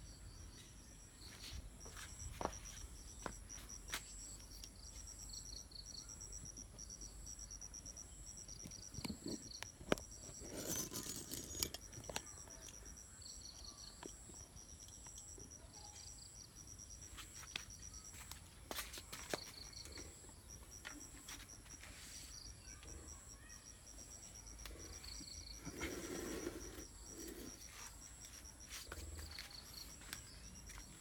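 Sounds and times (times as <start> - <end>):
faint steady high tone: 0.0 - 31.0
insects chirping: 0.0 - 31.0.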